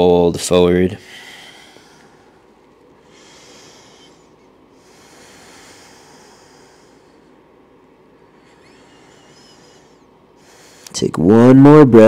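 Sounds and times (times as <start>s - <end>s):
person breathing slowly: 1.0s - 11.0s.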